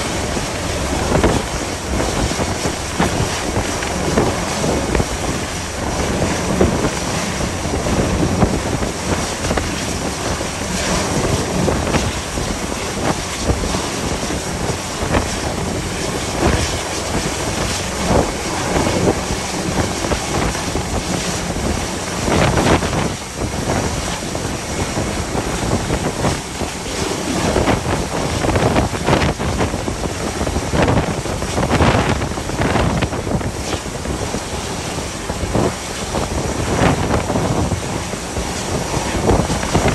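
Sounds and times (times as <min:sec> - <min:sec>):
sea rushing: 0:00.0 - 0:39.9
wind buffeting microphone: 0:00.0 - 0:39.9.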